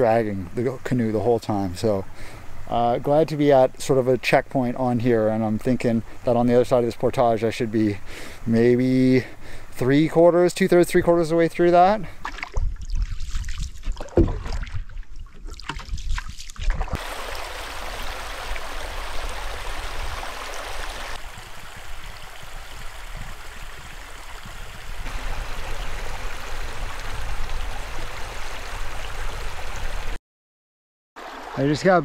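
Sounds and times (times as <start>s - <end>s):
creek water running: 0.0s - 30.2s, 31.2s - 32.0s.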